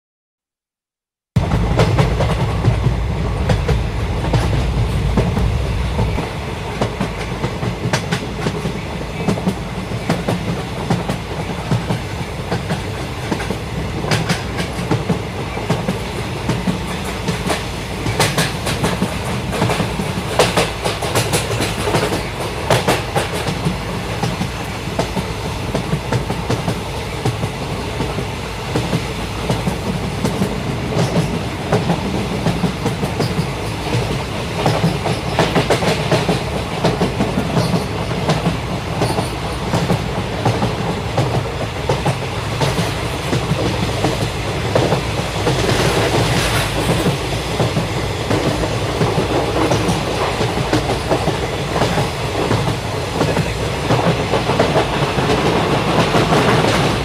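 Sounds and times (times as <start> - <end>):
train rumbling: 1.4 - 57.0.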